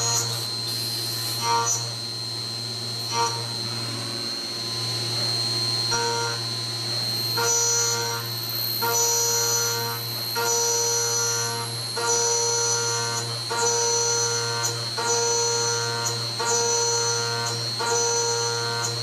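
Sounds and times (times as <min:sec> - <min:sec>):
milling machine hum: 0:00.0 - 0:19.0.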